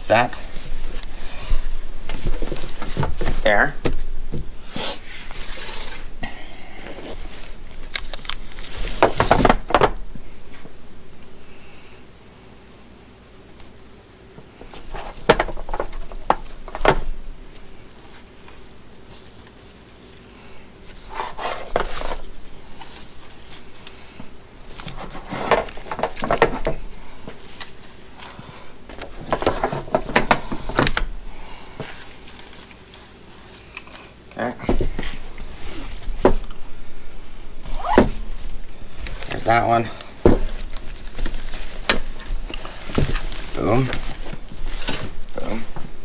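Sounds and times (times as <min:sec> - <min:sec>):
straps and bags rustling: 0:00.0 - 0:11.0, 0:13.4 - 0:46.0.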